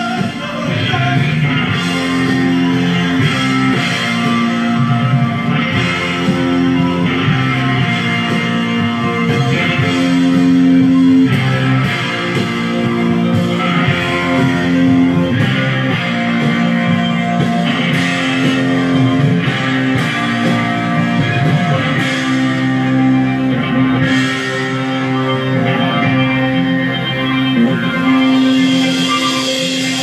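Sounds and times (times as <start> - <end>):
rock music with electric guitar: 0.0 - 30.0.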